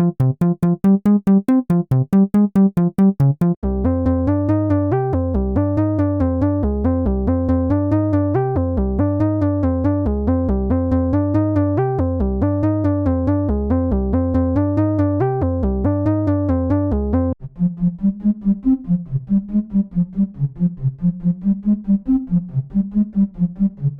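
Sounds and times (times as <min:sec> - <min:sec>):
synth bass: 0:00.0 - 0:23.9.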